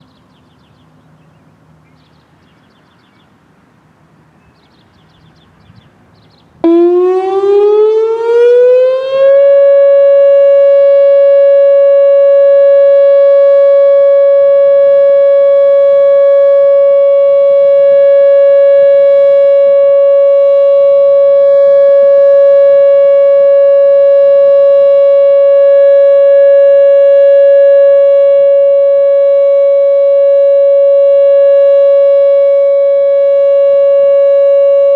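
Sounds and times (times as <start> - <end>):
warning siren steady tone: 6.6 - 34.9.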